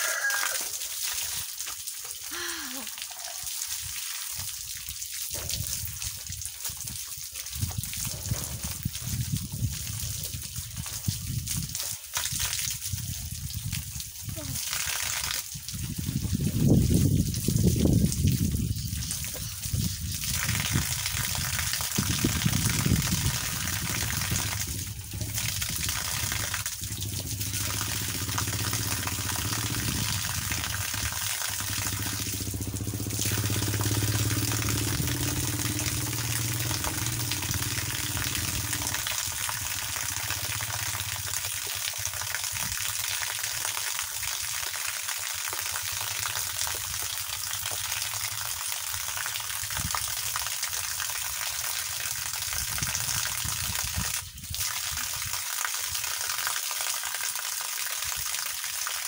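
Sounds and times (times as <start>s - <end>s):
hose water spraying: 0.0s - 59.0s.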